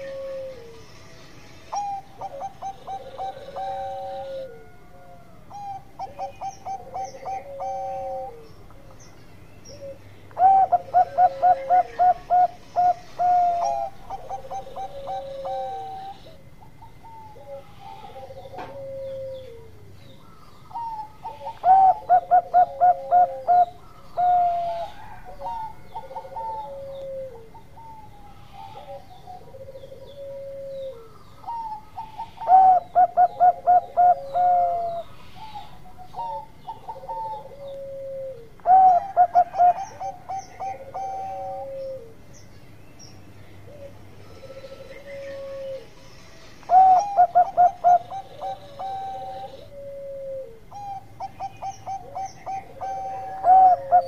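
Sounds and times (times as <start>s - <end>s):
dove cooing song: 0.0s - 42.5s, 43.3s - 54.0s
soft low dove coos: 1.8s - 8.9s, 9.7s - 42.2s, 43.6s - 54.0s.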